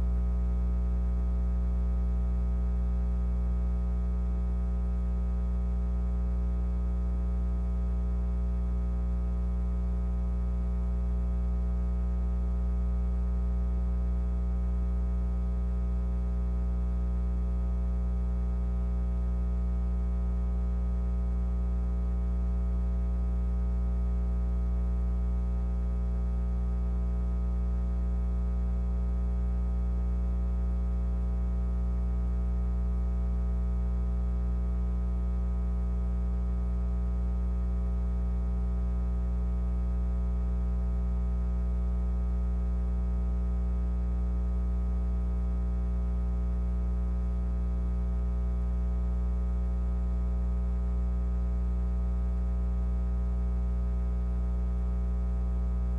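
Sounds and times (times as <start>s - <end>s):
low electrical hum: 0.0s - 45.7s, 55.3s - 55.9s.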